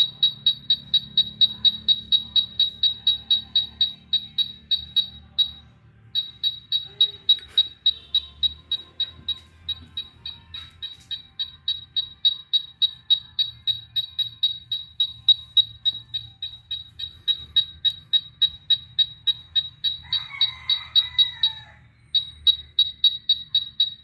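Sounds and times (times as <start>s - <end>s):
short high beeps: 0.0s - 24.0s.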